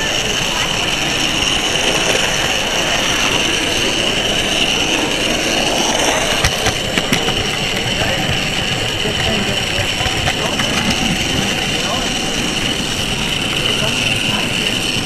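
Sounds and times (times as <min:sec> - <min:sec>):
model train running with high whine: 0:00.0 - 0:15.0
wheels clicking over pointwork: 0:00.0 - 0:15.0.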